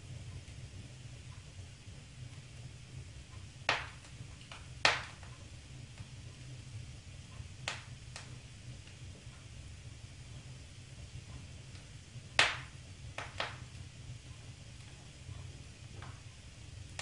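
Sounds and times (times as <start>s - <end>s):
fire crackling and popping: 0.0s - 17.0s
low steady rumble: 0.0s - 17.0s.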